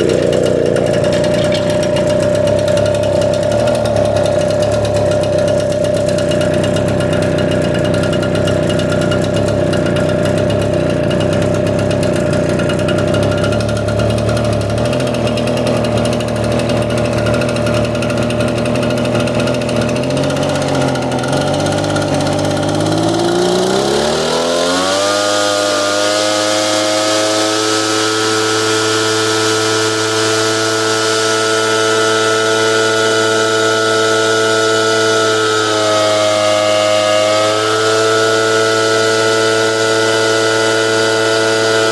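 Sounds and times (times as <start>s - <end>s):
leaf blower engine running: 0.0s - 41.9s.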